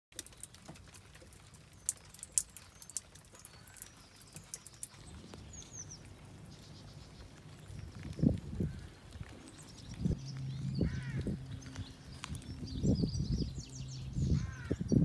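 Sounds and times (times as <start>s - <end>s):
rain pattering on a wet lane: 0.1s - 14.8s
water dripping and splashing: 0.1s - 15.0s.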